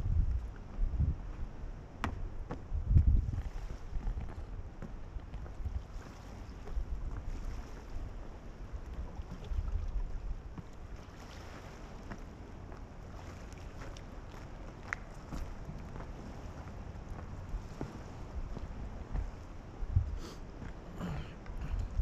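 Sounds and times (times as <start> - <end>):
wind buffeting microphone: 0.0 - 22.0
sea wash: 0.4 - 22.0.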